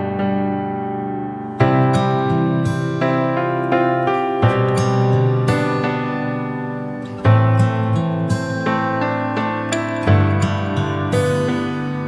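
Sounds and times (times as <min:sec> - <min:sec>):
plucked guitar-like music: 0:00.0 - 0:12.0.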